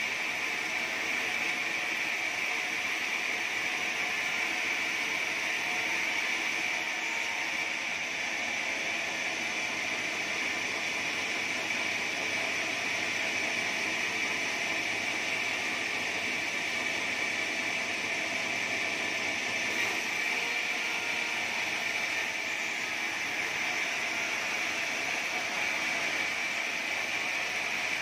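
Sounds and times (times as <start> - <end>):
band saw cutting wood: 0.0 - 28.0.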